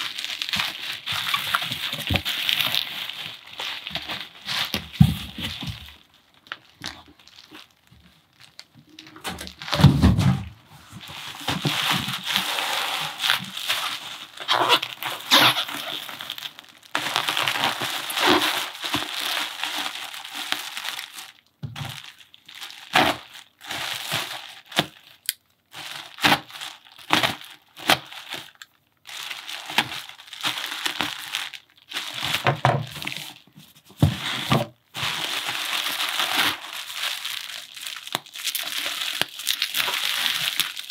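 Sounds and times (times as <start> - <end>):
bubble wrap crinkling: 0.0 - 40.9.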